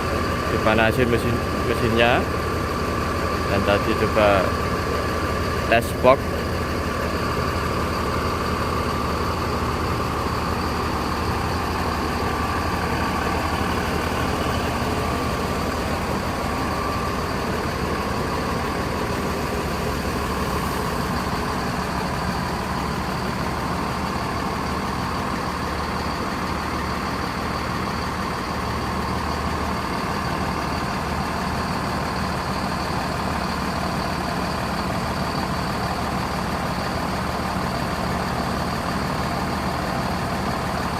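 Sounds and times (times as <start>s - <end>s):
diesel bus engine idling: 0.0s - 40.9s.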